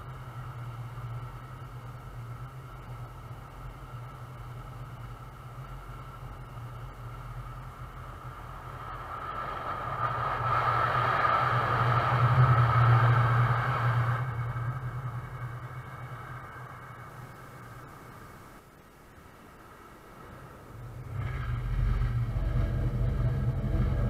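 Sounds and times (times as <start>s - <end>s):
freight train wheels rumbling: 0.0s - 18.6s, 19.7s - 24.0s
low hum: 0.0s - 24.0s.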